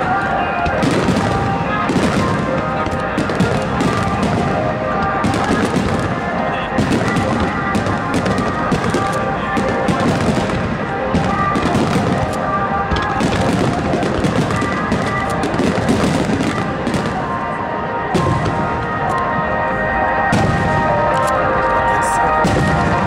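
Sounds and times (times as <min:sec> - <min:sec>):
fireworks bursting and crackling: 0:00.0 - 0:23.0
music playing: 0:00.0 - 0:23.0.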